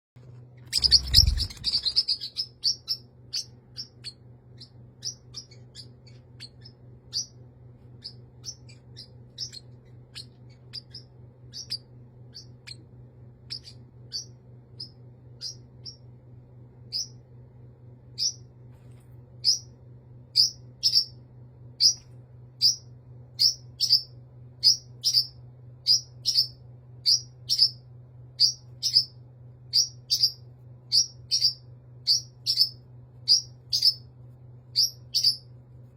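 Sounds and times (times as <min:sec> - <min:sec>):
steady low hum: 0:00.2 - 0:35.9
bird chirping: 0:00.5 - 0:17.4, 0:18.1 - 0:18.5, 0:19.4 - 0:35.6.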